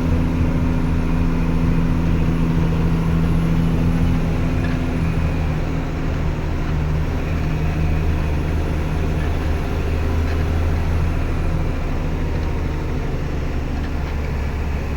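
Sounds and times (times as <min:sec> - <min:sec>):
truck engine running: 0:00.0 - 0:14.9.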